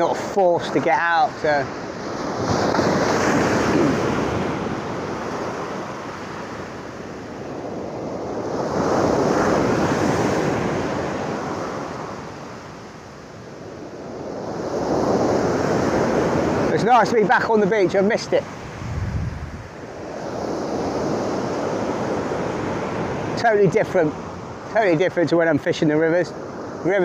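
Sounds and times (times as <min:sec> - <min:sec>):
sea surf breaking on shore: 0:00.0 - 0:27.0.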